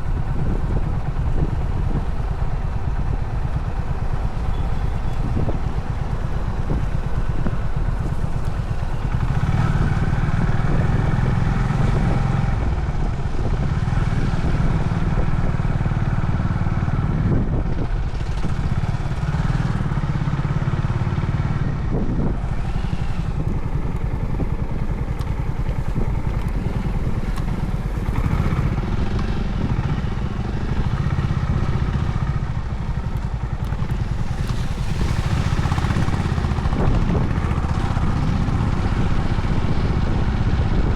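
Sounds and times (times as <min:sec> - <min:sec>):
motorcycle engine running: 0:00.0 - 0:40.9
road noise: 0:00.0 - 0:40.9.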